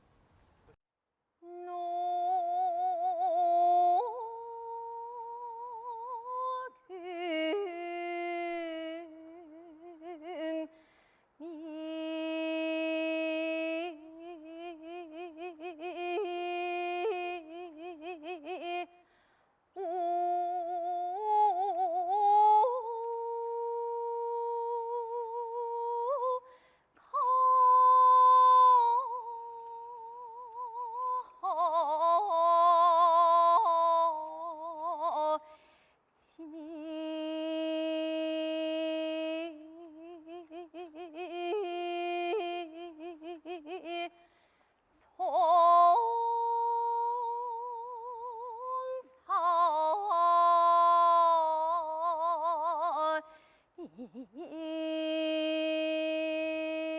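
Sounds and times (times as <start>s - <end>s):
woman singing unaccompanied: 1.4s - 10.8s, 11.4s - 19.1s, 19.8s - 35.6s, 36.2s - 44.2s, 44.9s - 56.9s.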